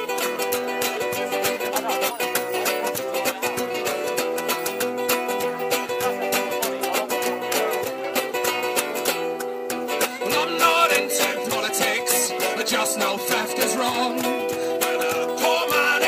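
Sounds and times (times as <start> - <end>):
acoustic guitars strummed: 0.0 - 16.0
cajon hand strikes: 0.0 - 16.0.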